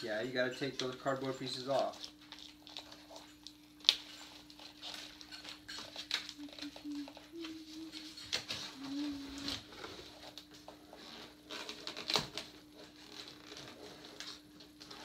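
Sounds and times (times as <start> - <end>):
cardboard packaging rustling: 0.0 - 15.0
faint steady hum: 0.0 - 15.0.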